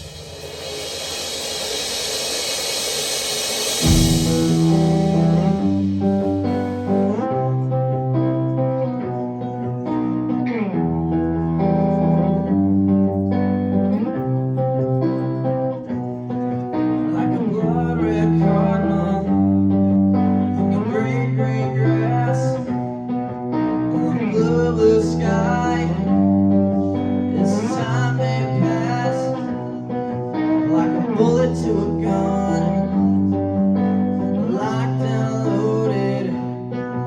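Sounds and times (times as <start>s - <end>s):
lead guitar: 0.0s - 37.0s
live rock band playing: 0.0s - 37.0s.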